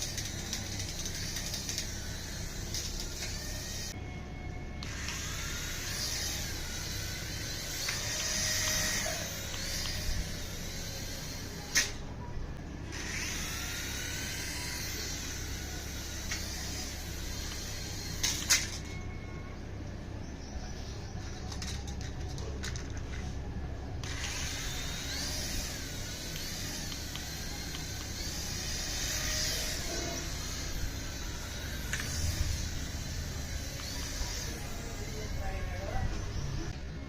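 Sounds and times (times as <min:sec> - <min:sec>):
small electric motor whining: 0:00.0 - 0:04.1, 0:04.8 - 0:19.2, 0:20.8 - 0:36.8.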